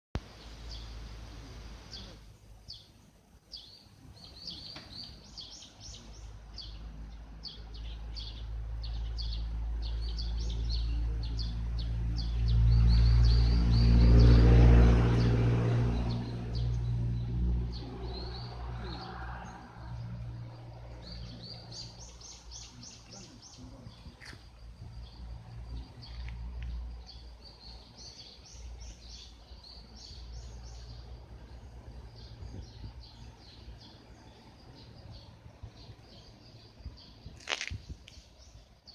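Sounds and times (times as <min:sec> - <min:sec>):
low engine rumble: 0:00.2 - 0:38.9
small birds chirping: 0:00.2 - 0:38.9.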